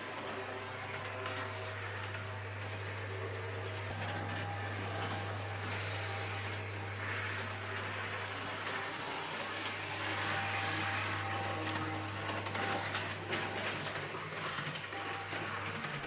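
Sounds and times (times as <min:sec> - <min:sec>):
locomotive hum and running noise: 0:00.0 - 0:16.0.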